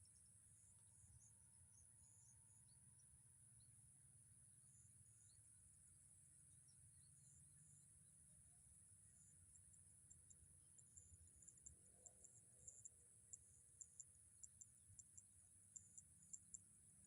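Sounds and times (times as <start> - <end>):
faint insect chorus: 0.0 - 17.0.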